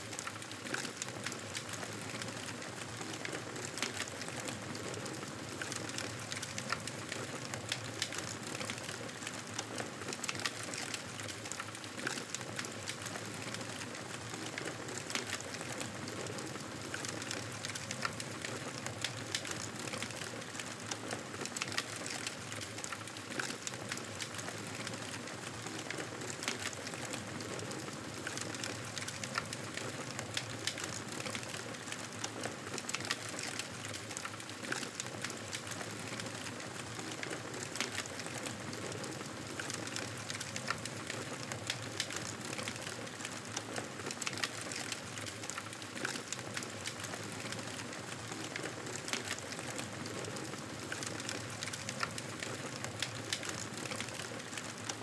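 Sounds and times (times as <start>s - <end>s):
fire crackles and pops: 0.0s - 55.0s.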